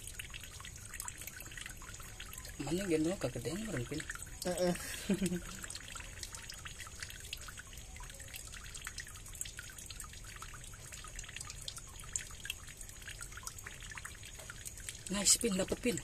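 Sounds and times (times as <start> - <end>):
water dripping and trickling: 0.0 - 16.0.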